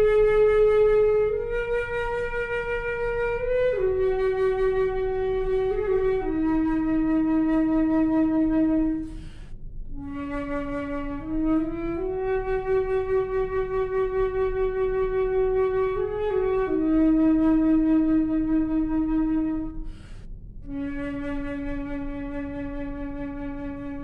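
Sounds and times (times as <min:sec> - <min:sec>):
flute playing long notes: 0:00.0 - 0:20.0, 0:20.6 - 0:24.0.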